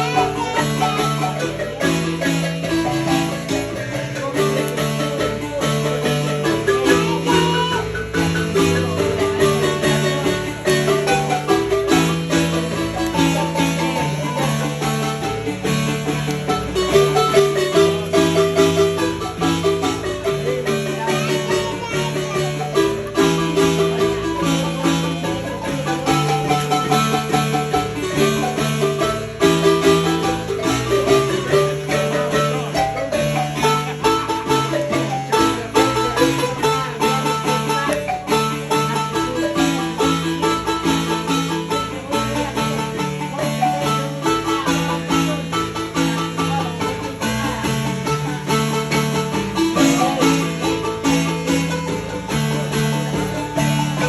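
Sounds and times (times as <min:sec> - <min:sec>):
marimba playing a tune: 0:00.0 - 0:54.0.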